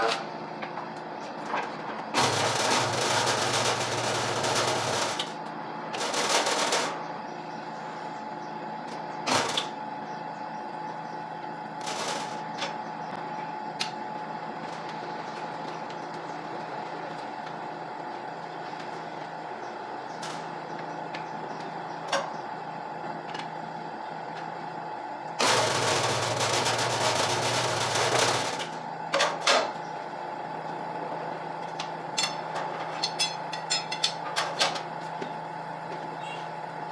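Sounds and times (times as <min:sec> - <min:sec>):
steady hum: 0:00.0 - 0:36.9.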